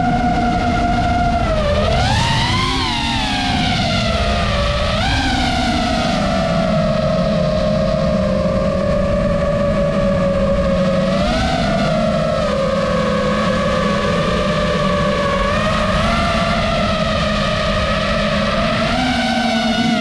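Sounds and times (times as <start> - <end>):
drone propellers whining: 0.0 - 20.0
low rumbling noise: 0.0 - 20.0.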